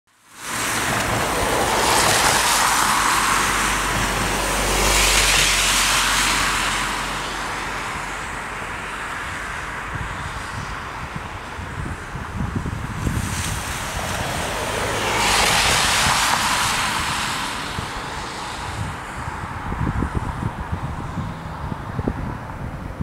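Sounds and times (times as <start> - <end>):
road traffic passing: 0.2 - 23.0.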